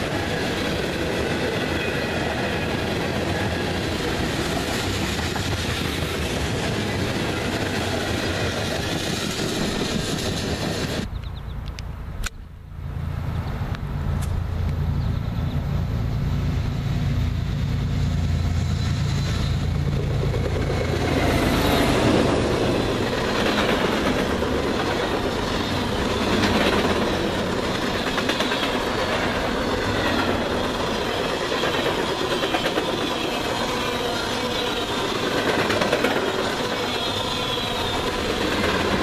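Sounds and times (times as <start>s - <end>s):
diesel locomotive engines droning: 0.0s - 39.0s.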